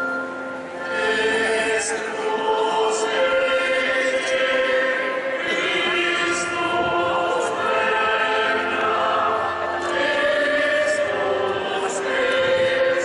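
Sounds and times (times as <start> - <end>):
choir singing held notes: 0.8 - 13.0.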